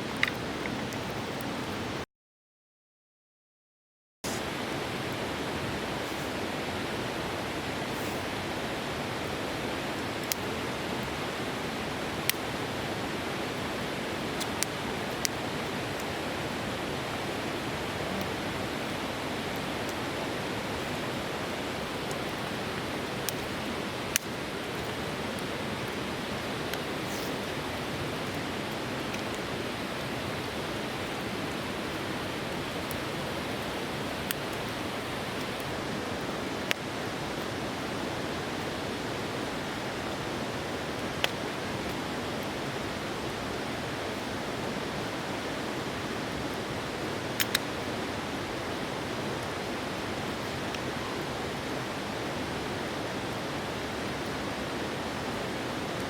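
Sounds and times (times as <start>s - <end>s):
river rushing: 4.3s - 56.0s.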